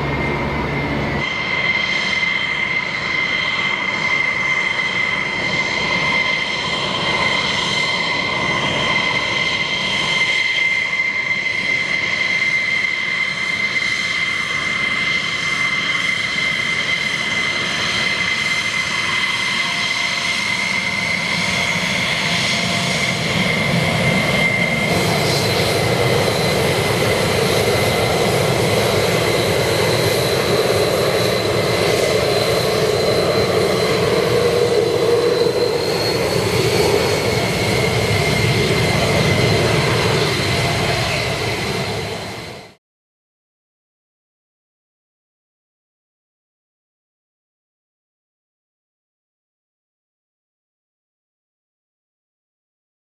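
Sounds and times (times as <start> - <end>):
jet engine whine and roar: 0.0 - 42.8.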